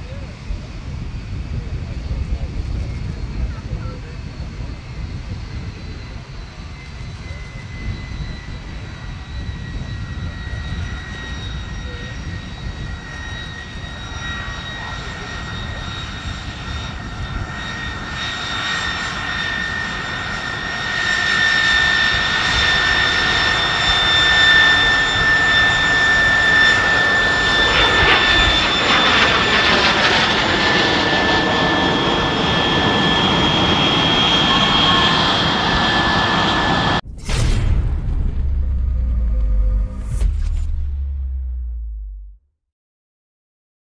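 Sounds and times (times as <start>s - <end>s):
jet engine turbine whine: 0.0s - 37.2s.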